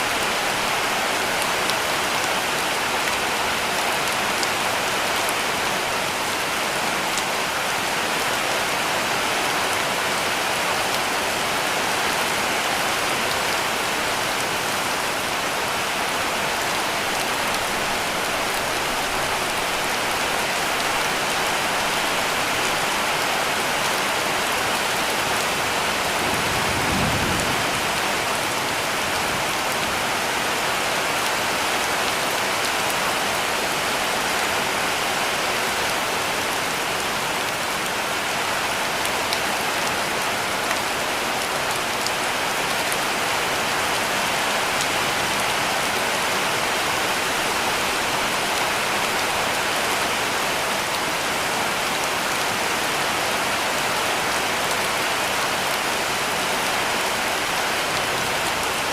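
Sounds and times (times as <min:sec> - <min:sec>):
heavy rain on a roof: 0:00.0 - 0:58.9.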